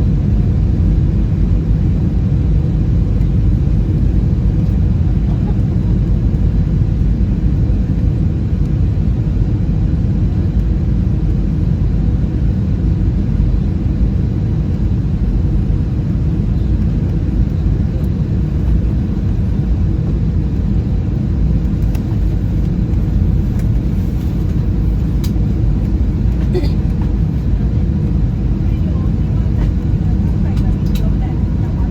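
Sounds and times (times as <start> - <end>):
airplane cabin engine rumble: 0.0 - 31.9.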